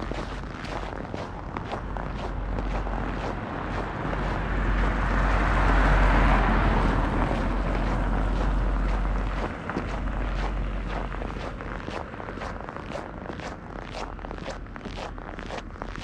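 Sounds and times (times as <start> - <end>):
car tyres on snowy road: 0.0 - 16.0
footsteps crunching on snow: 0.0 - 16.0
wind rumble on microphone: 0.0 - 16.0.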